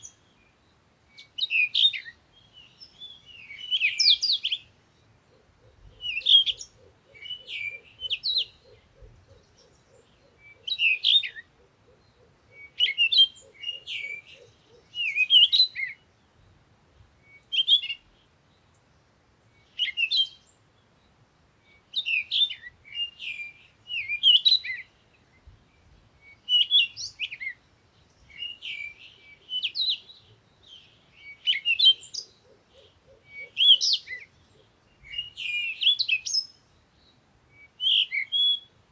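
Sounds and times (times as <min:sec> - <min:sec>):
songbird warbling: 0:01.2 - 0:16.1, 0:21.7 - 0:36.8, 0:37.5 - 0:38.8.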